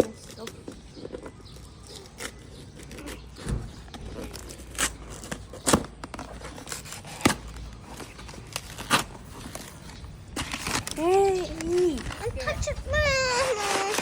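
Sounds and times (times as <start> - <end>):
packaging tearing and crinkling: 1.9 - 14.0.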